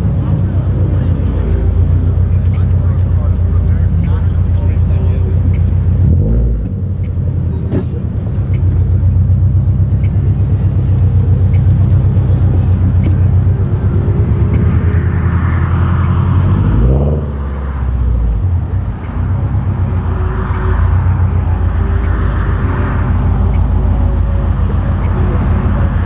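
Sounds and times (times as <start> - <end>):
car engine and exhaust droning: 0.0 - 26.0
engine revving: 0.0 - 26.0.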